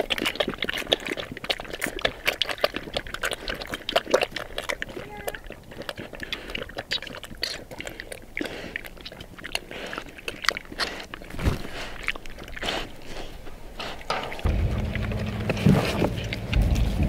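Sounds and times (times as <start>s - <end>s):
pigs crunching and chewing feed: 0.0s - 17.0s.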